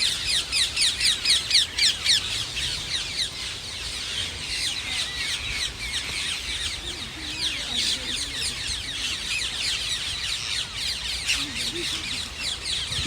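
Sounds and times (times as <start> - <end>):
flock of parakeets screeching: 0.0 - 13.0.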